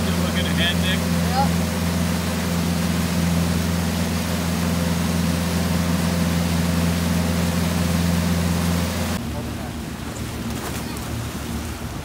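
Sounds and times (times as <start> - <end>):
boat engine drone: 0.0 - 12.0
rushing water: 0.0 - 12.0
wind: 0.0 - 12.0.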